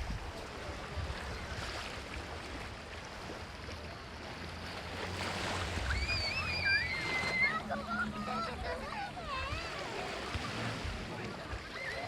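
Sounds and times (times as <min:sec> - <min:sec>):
low rumble of wind: 0:00.0 - 0:12.0
sea waves washing on sand: 0:00.0 - 0:12.0.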